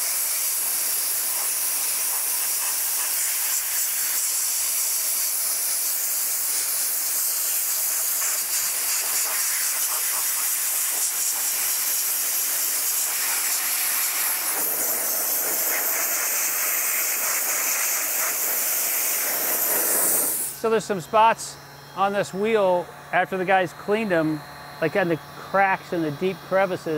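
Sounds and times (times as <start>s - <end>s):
dry ice blasting hiss: 0.0s - 26.9s.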